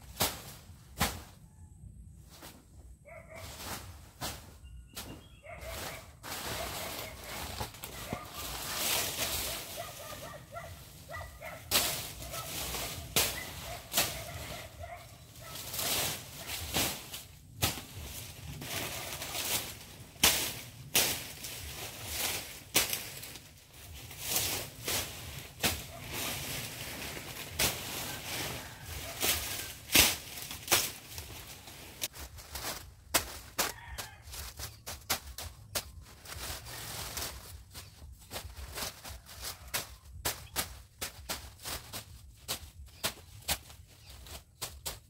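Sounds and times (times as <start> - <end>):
dry leaves crackling and tearing: 5.6 - 45.0.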